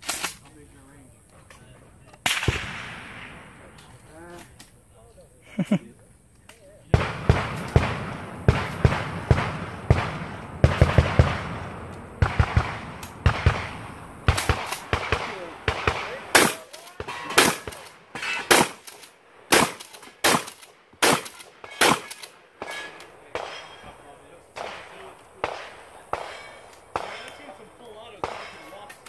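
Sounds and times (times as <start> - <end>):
gunshots: 2.2 - 3.8, 6.9 - 29.0.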